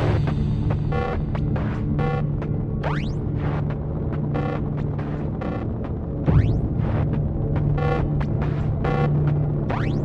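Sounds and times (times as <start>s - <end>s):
low ambient drone: 0.0s - 10.0s.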